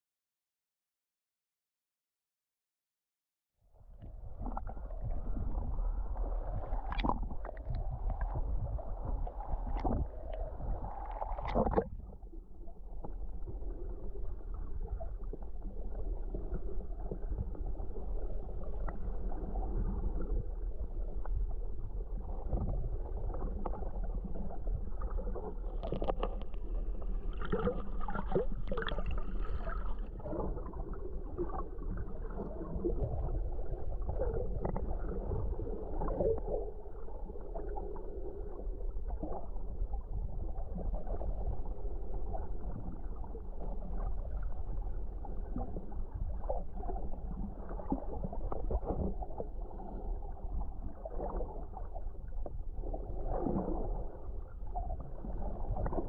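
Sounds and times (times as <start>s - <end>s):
muffled underwater gurgling: 3.8s - 56.0s.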